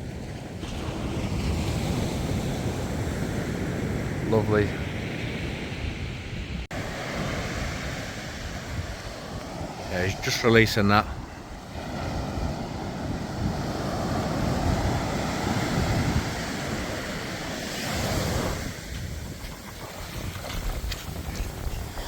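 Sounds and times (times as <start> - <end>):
waves breaking on shore: 0.0 - 22.0
wind buffeting microphone: 0.0 - 22.0.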